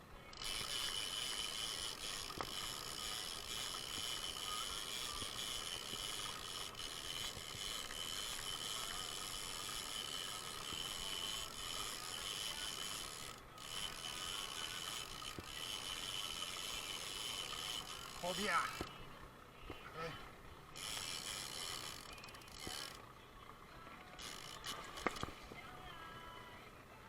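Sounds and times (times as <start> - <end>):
fishing reel whirring: 0.2 - 19.0, 20.0 - 23.2, 24.0 - 26.0.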